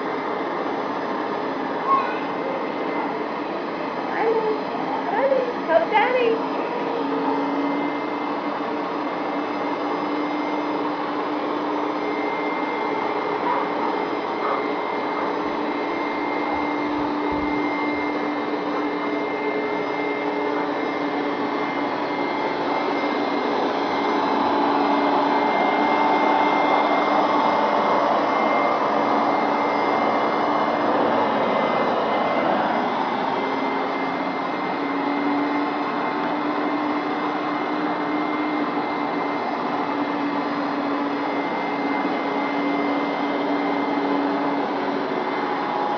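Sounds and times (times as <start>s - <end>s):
carpet cleaner motor whining: 0.0s - 45.9s.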